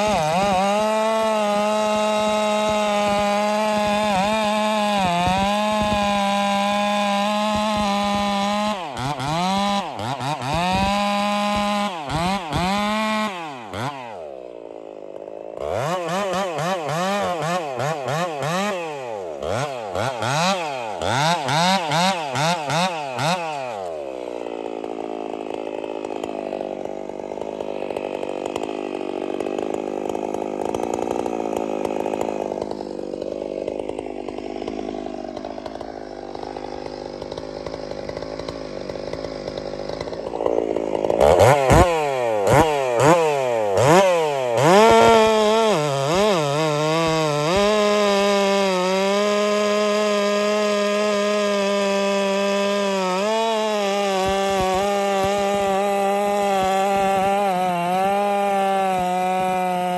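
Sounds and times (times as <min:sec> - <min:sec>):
chainsaw revving and cutting log: 0:00.0 - 0:59.9.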